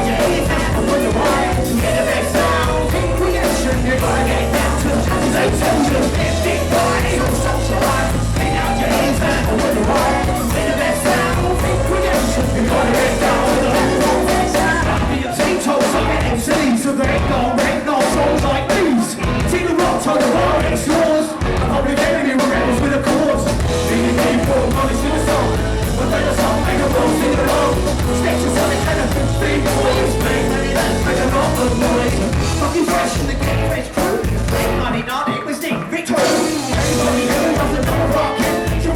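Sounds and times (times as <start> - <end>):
live hip hop band with vocals: 0.0 - 38.9.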